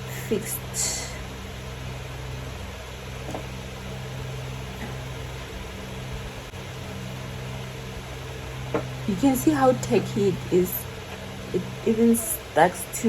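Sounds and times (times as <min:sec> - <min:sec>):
machine hum with hiss: 0:00.0 - 0:13.0.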